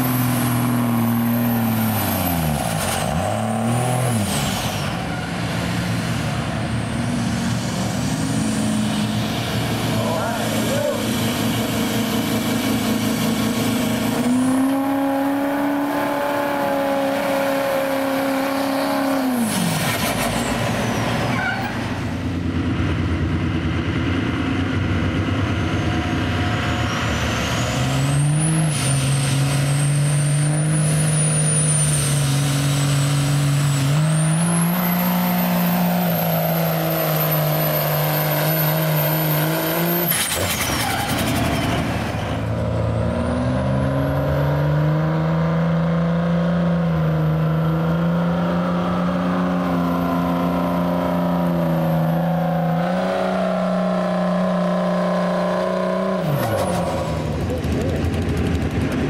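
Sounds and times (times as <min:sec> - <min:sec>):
diesel truck engine at full throttle: 0:00.0 - 0:59.0.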